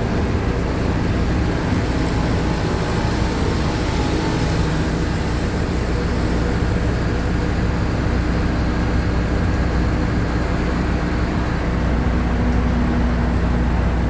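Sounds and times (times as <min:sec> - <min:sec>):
bus diesel engine droning: 0:00.0 - 0:14.0
road noise: 0:00.0 - 0:14.0.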